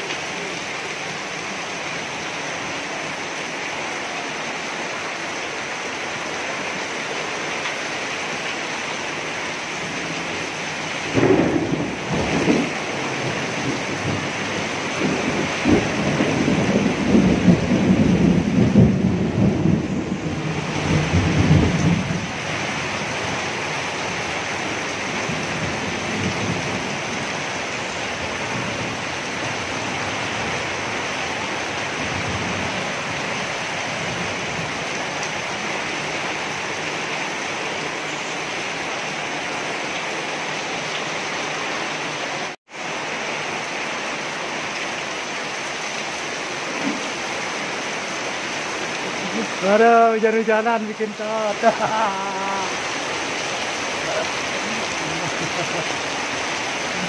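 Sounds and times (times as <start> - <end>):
heavy rain on metal roofs: 0.0 - 57.0
water gushing off a roof: 0.0 - 57.0.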